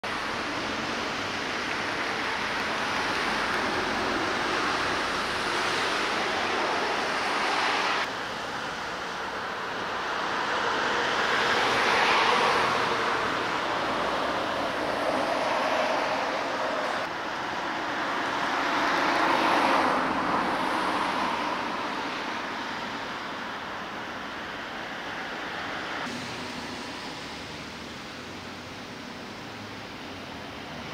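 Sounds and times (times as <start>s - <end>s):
cars passing: 0.0s - 30.9s
steady traffic hiss: 0.0s - 30.9s.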